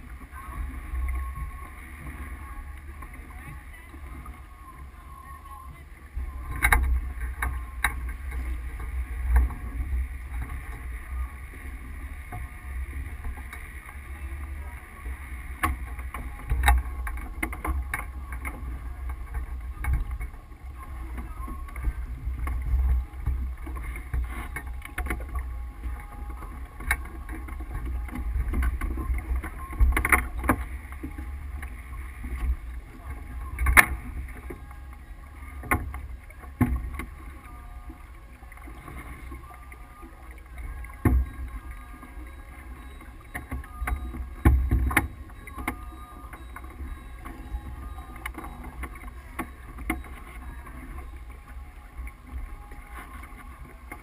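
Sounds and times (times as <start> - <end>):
knocks and clicks from boat: 0.0 - 54.0.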